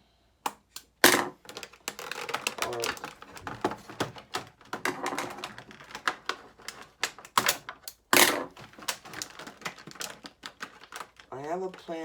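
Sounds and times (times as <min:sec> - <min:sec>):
plastic packaging clicking and crackling: 0:00.5 - 0:12.0.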